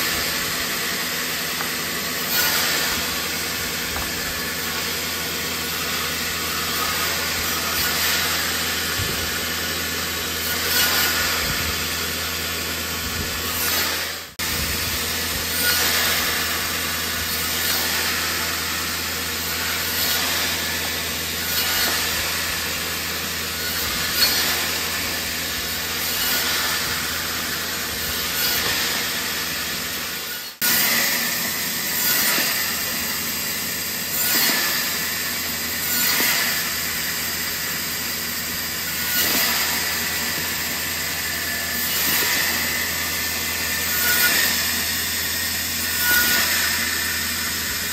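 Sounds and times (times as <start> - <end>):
band saw cutting wood blocks: 0.0 - 47.9
band saw motor hum: 0.0 - 47.9.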